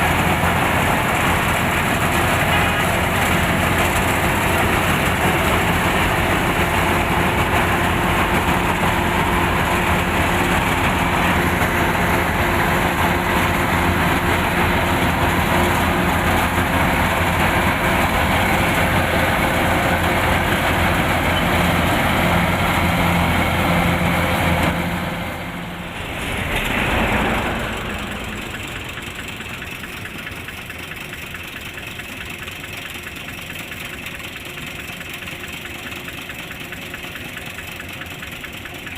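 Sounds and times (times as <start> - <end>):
combine harvester engine and threshing: 0.0 - 38.9.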